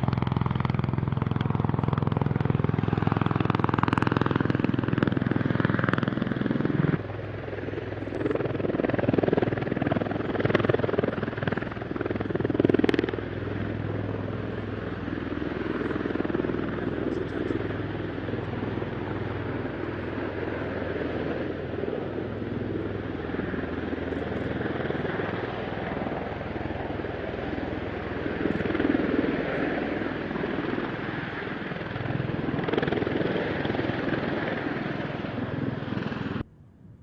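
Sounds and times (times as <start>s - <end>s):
aircraft rotors and turbines droning: 0.0s - 37.0s.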